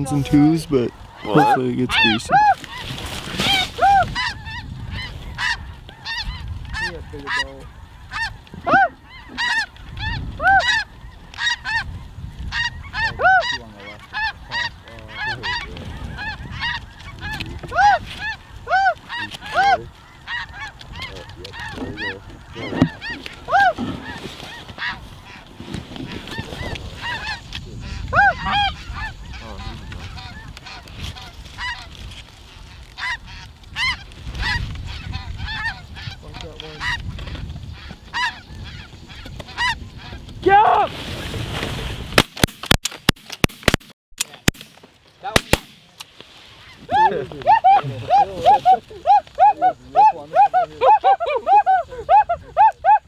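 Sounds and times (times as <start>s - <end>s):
snow geese honking: 0.0s - 40.4s, 46.4s - 53.0s.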